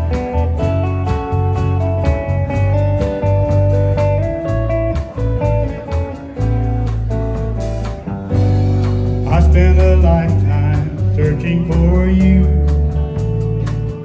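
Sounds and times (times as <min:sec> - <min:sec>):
bass guitar: 0:00.0 - 0:14.0
lead guitar picking melody: 0:00.0 - 0:14.0
rhythm guitar: 0:00.0 - 0:14.0
steady drum beat: 0:00.0 - 0:14.0.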